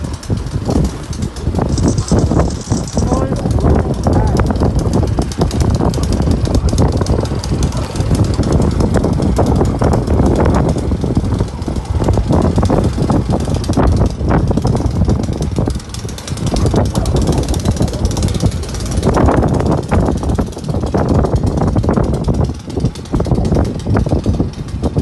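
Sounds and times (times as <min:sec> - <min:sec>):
snow blower engine running: 0:00.0 - 0:25.0.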